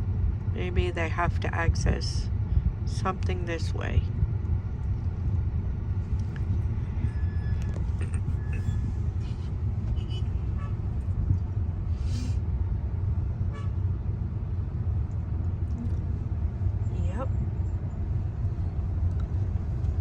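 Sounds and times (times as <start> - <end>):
car rumbling in slow traffic: 0.0 - 20.0.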